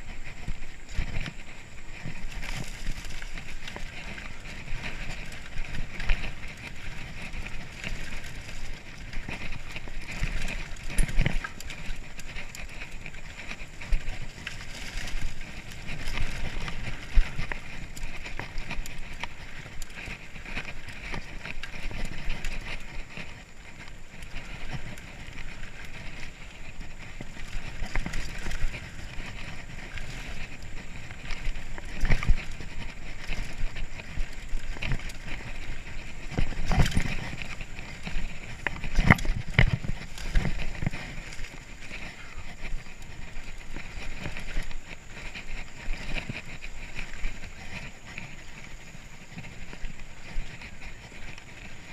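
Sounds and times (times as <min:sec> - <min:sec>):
bike rattling: 0:00.0 - 0:51.9
bike tyres rolling on dirt: 0:00.0 - 0:51.9.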